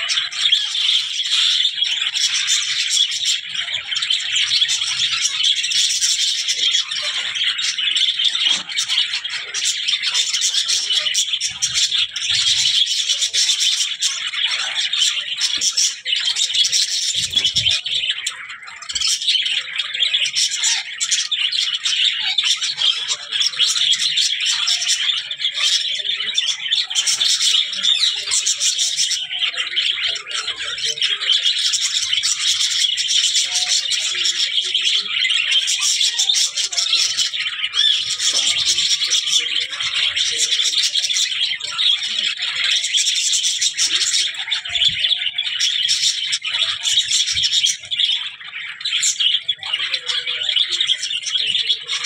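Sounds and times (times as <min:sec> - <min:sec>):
budgerigars chattering: 0:00.0 - 0:52.0.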